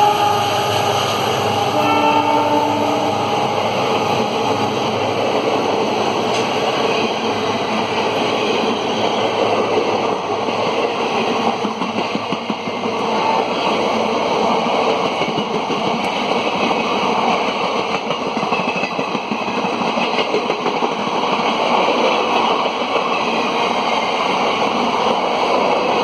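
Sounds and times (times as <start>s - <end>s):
train wheels roaring on rails: 0.0s - 26.0s.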